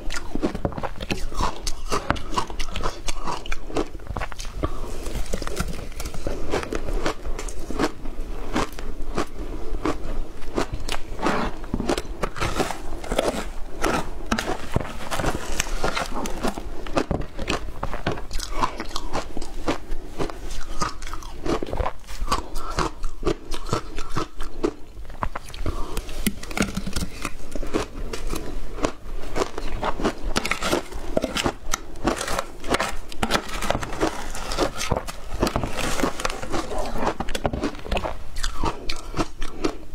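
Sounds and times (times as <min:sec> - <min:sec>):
crunching shaved ice: 0:00.0 - 0:39.9.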